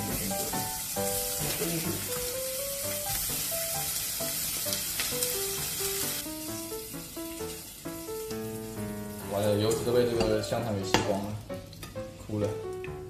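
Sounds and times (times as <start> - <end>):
background music with melody: 0.0 - 13.0
sausages sizzling in frying pan: 0.0 - 13.0.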